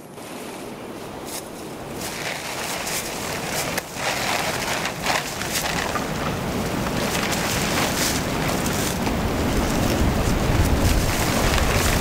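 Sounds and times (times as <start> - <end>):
wind rumble on microphone: 0.0 - 12.0
plastic tarp crinkling: 2.0 - 12.0.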